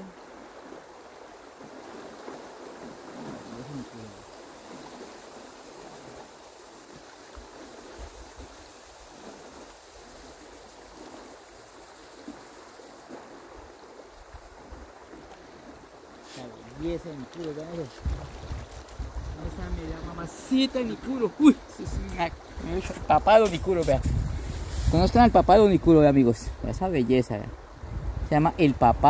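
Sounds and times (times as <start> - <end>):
river water running: 0.0 - 29.0.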